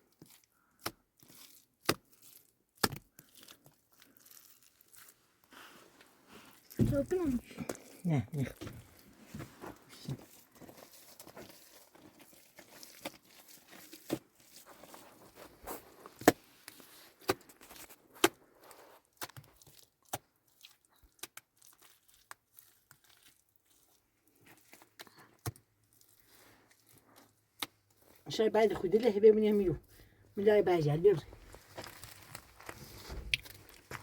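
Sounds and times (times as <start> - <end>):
crinkling and rustling: 0.0 - 29.9, 30.8 - 34.0.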